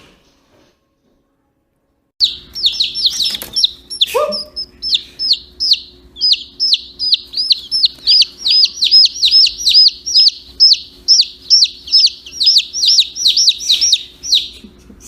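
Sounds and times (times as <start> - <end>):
chicks peeping: 2.2 - 15.0.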